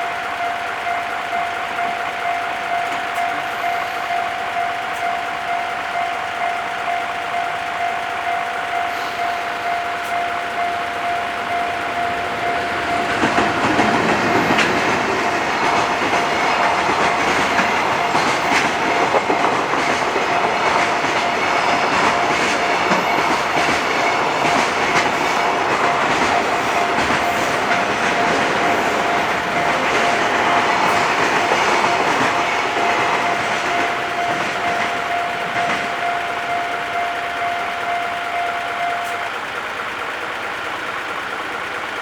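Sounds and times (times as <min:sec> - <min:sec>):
crossing warning bell ringing: 0:00.0 - 0:42.0
train wheels clacking over rail joints: 0:00.0 - 0:42.0.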